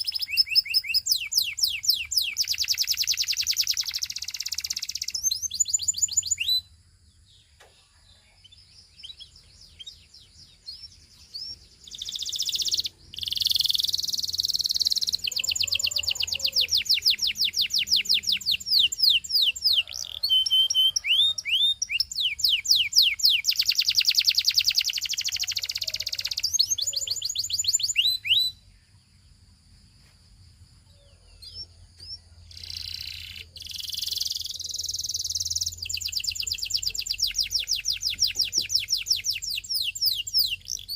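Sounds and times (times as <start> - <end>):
canary singing trills: 0.0 - 29.2, 30.8 - 40.9.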